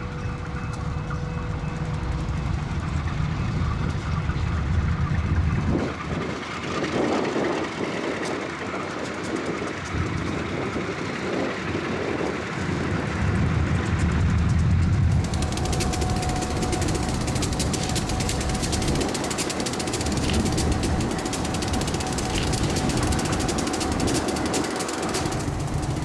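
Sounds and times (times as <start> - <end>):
diesel locomotives running: 0.0 - 26.0
wheels clattering over rail joints: 0.0 - 26.0.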